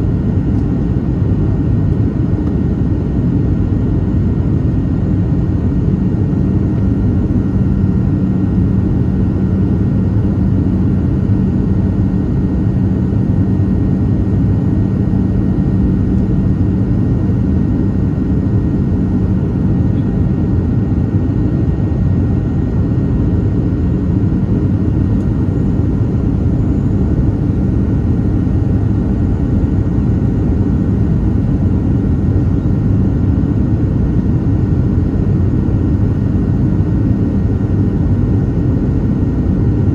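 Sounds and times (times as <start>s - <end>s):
airplane cabin drone: 0.0s - 39.9s
faint engine whine: 0.0s - 39.9s.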